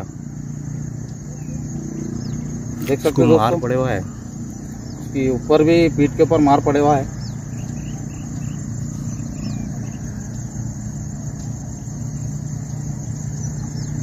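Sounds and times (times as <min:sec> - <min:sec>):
low outdoor background hum: 0:00.0 - 0:14.0.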